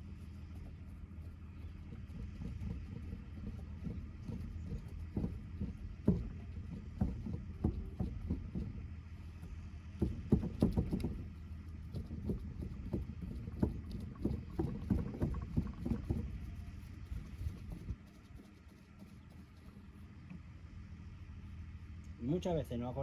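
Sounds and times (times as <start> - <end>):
paint roller knocking and rubbing: 0.0 - 20.0.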